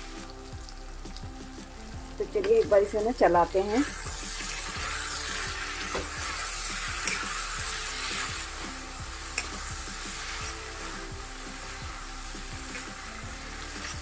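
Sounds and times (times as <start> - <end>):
background music: 0.0 - 14.0
vegetables sizzling in oil: 0.0 - 14.0.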